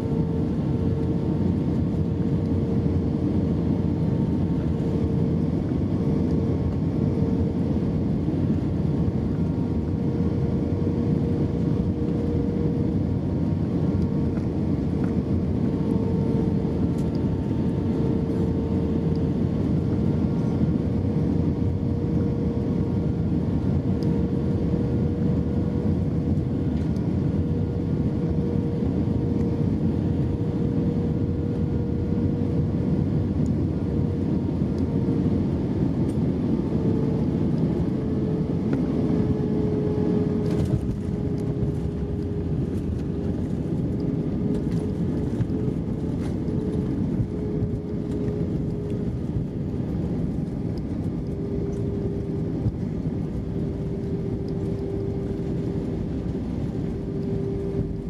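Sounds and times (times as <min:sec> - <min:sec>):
constant hum-tone: 0:00.0 - 0:58.0
jet engines running: 0:00.0 - 0:58.0.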